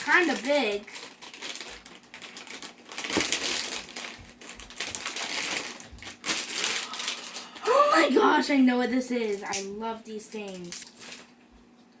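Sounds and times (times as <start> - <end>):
plastic bag crinkling: 0.0 - 8.4, 9.1 - 11.5.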